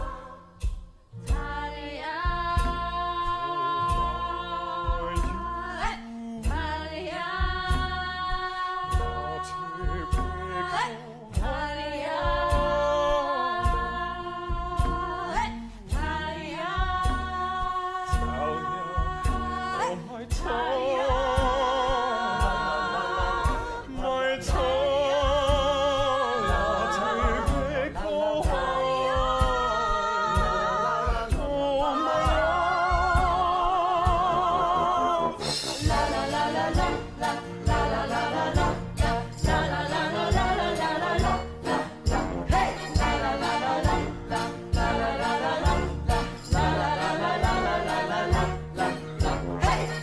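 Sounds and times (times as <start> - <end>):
music with steady beat: 0.0 - 50.0
singing with wide vibrato: 0.0 - 50.0.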